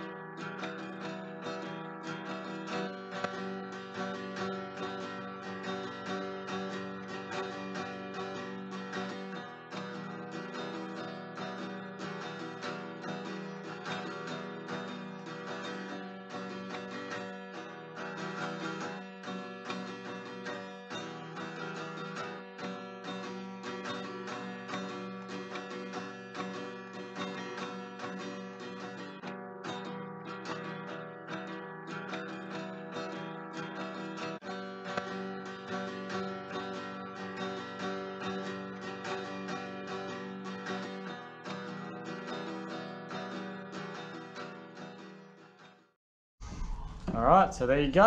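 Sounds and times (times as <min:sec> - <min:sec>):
acoustic guitar strummed and plucked: 0:00.0 - 0:48.0.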